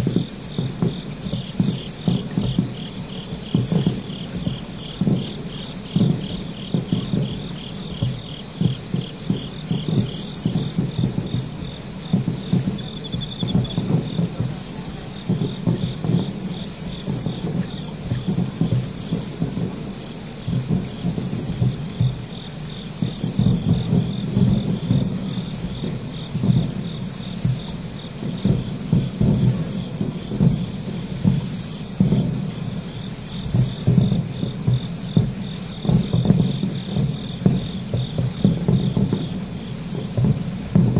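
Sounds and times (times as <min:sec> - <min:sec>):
distant fireworks thudding: 0:00.0 - 0:40.9
insects trilling: 0:00.0 - 0:40.9
very high insect chirp: 0:00.0 - 0:40.9.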